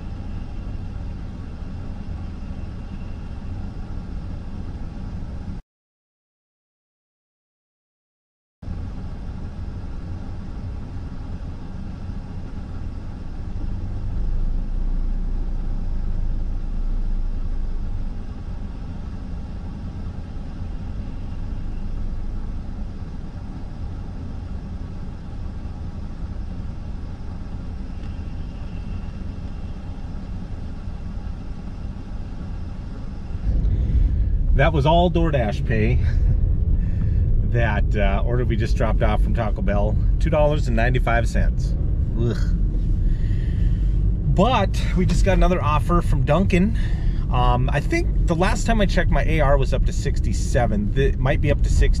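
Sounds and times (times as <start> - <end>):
car idling from inside cabin: 0.0 - 5.6, 8.7 - 52.0.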